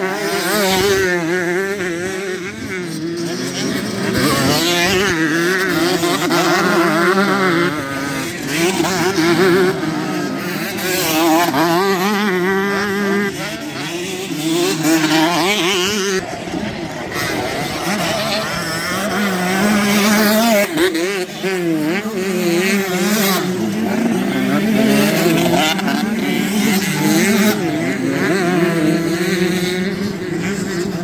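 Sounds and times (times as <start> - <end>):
motocross engines revving: 0.0 - 31.0.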